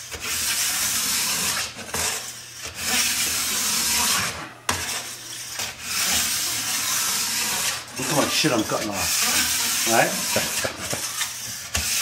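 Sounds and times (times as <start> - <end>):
hand tool scraping plastic: 0.0 - 12.0.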